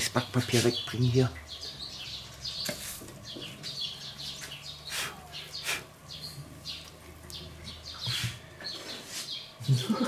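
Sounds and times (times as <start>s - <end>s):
songbirds chirping and singing: 0.0s - 10.0s.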